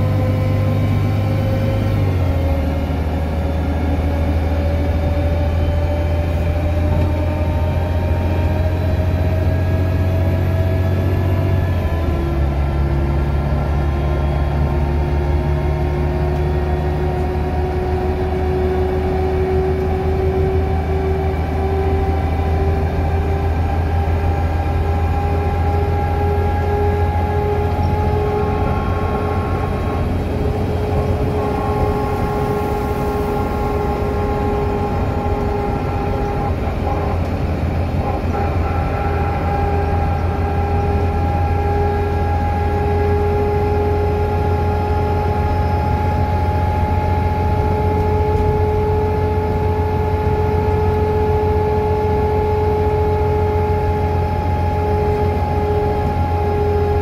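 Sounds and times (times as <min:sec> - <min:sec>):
bus drivetrain drone: 0:00.0 - 0:57.0
rear axle whine: 0:00.0 - 0:57.0.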